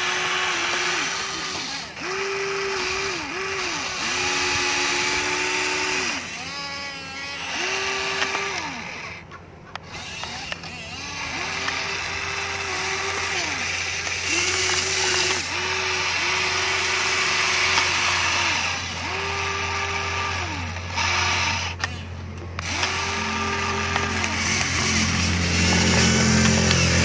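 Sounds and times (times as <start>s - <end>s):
toy gear motors whirring: 0.0s - 27.0s.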